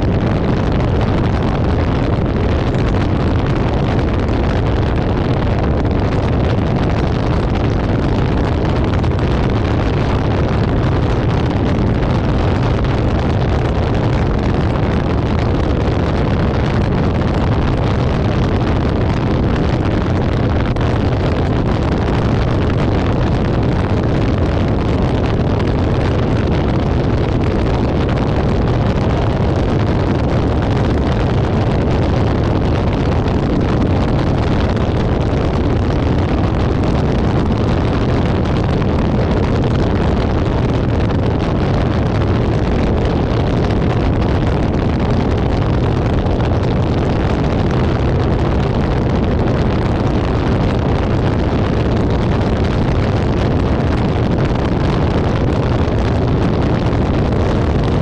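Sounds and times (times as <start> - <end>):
car road noise rumble: 0.0 - 58.0
wind rush: 0.0 - 58.0.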